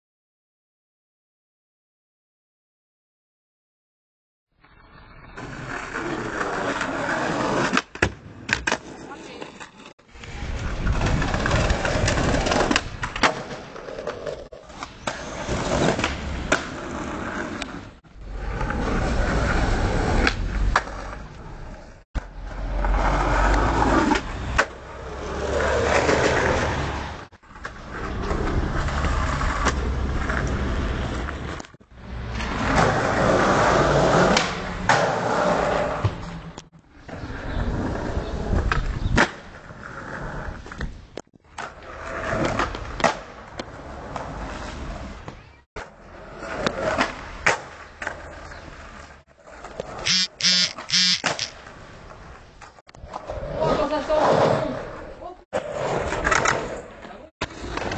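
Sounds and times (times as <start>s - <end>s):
skateboard wheels rolling: 4.6s - 57.9s.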